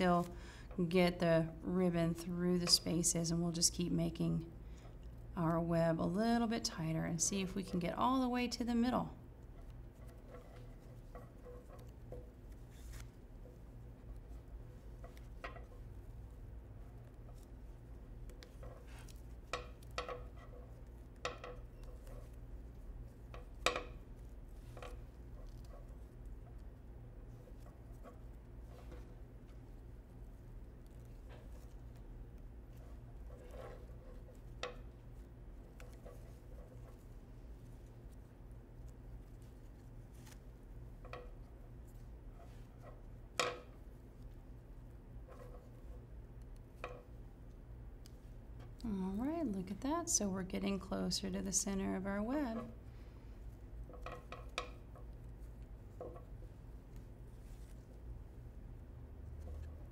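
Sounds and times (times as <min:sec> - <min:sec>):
steady low hum: 0:00.0 - 0:59.9
ribbon rustling: 0:07.2 - 0:50.0, 0:51.5 - 0:58.6.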